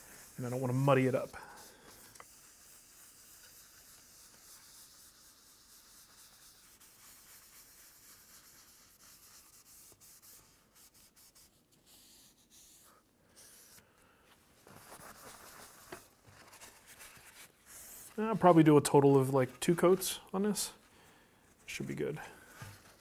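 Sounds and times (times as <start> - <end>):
faint rubbing of applicator pad: 0.0 - 20.9, 21.5 - 23.0.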